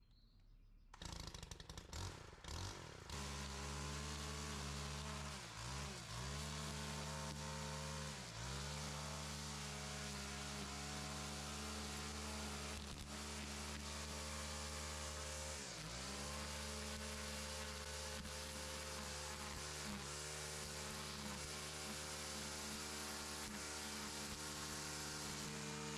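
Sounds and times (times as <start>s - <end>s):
string trimmer engine droning: 1.0s - 25.9s.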